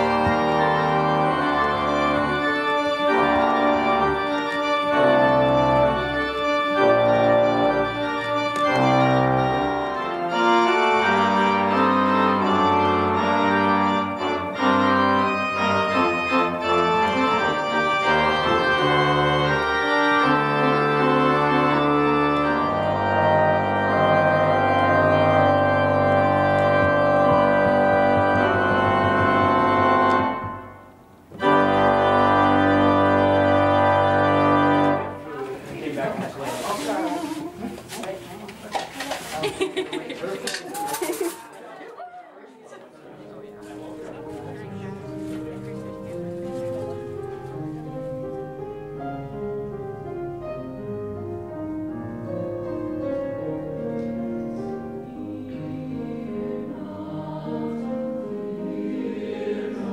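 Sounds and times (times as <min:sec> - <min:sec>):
church organ chords: 0:00.0 - 0:35.3, 0:43.5 - 0:59.9.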